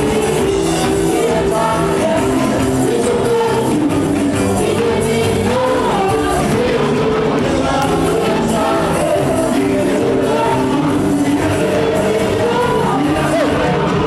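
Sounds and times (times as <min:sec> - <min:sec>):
worship music with singing: 0:00.0 - 0:14.0.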